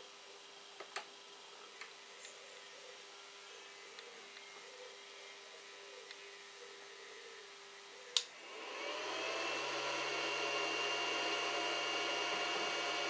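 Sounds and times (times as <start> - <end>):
inverter whine and hum: 0.0 - 13.0.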